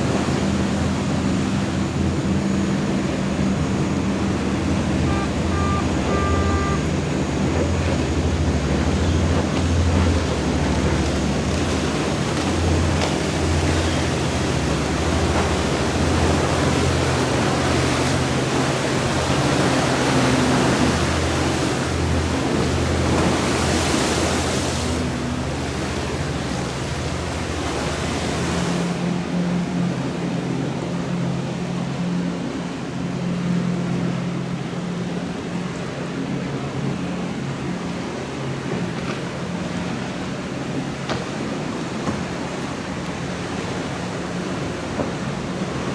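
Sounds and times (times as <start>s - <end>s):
powerboat engines running: 0.0s - 45.9s
rush of water and wind: 0.0s - 45.9s.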